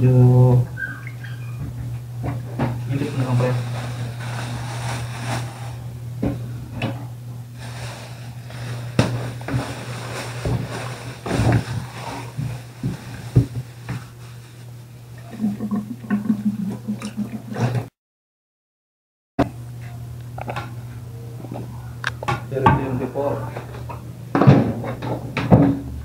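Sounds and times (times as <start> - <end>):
steady low hum: 0.0 - 17.9, 19.4 - 26.0.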